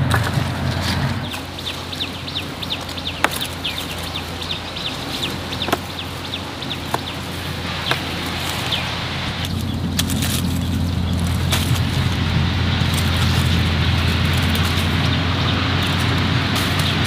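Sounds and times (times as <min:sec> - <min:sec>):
bird chirping: 0:00.9 - 0:17.0.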